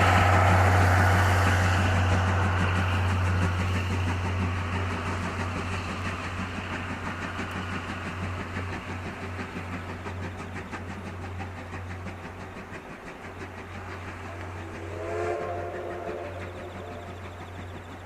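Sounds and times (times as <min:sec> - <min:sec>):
steam train rumbling: 0:00.0 - 0:18.0.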